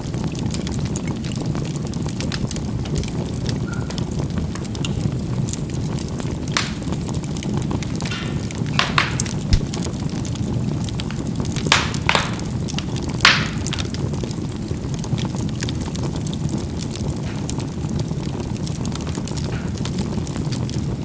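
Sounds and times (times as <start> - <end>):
charcoal crackling: 0.0 - 21.0
low fire rumble: 0.0 - 21.0
charcoal popping: 0.4 - 21.0.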